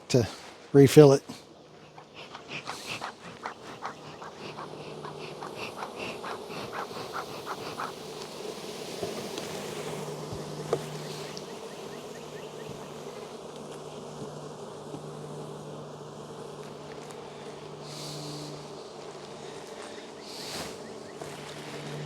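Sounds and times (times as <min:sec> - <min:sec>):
bees buzzing: 0:01.4 - 0:22.0.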